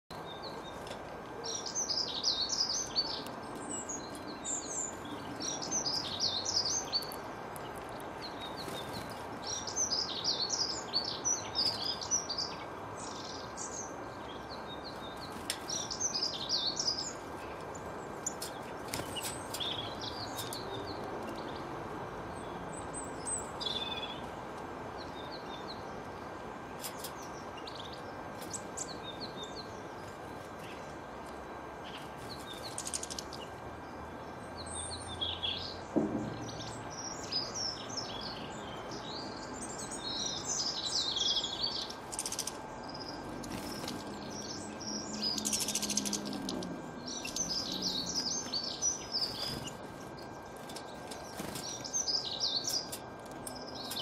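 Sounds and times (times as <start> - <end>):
songbirds chirping and twittering: 0.0 - 54.0
faint constant tone: 0.1 - 54.0.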